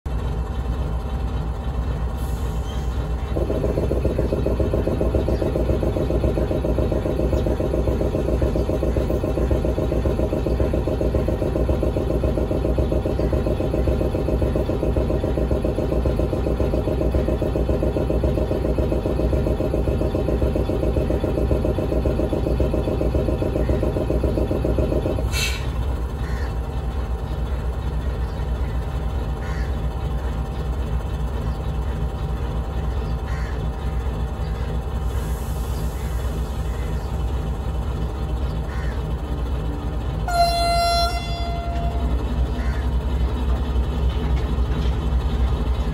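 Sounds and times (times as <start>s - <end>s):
diesel locomotive engine rumbling: 0.0s - 45.9s
fast-pulsing mechanical rattle: 0.1s - 45.9s.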